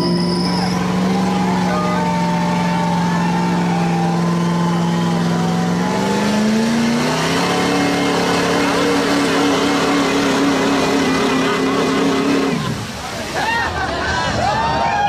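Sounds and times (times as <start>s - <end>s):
off-road vehicle engine revving: 0.0s - 13.4s.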